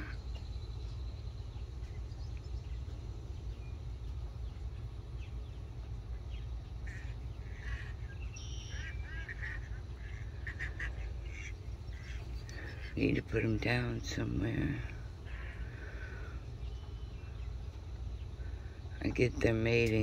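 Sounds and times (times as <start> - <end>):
short bird calls: 0.0 - 13.1, 14.6 - 19.0
steady low rumble: 0.0 - 20.0.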